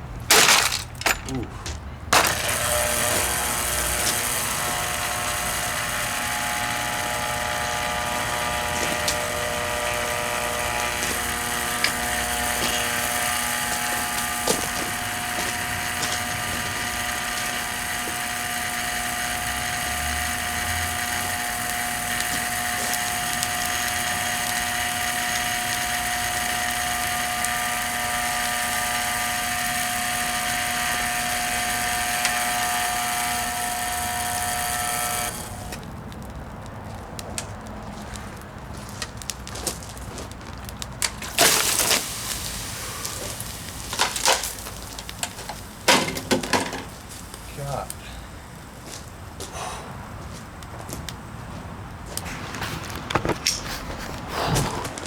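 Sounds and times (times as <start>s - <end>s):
vacuum cleaner motor whining: 2.2s - 35.9s, 41.2s - 48.9s, 52.2s - 55.0s.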